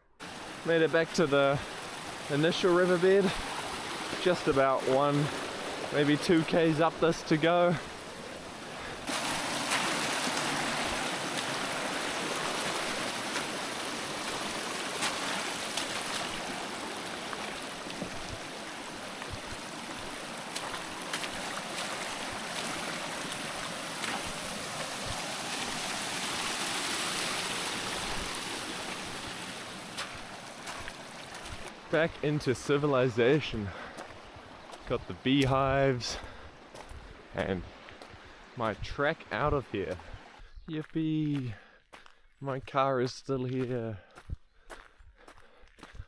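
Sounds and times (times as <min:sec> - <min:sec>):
river water rushing over stones: 0:00.2 - 0:40.3.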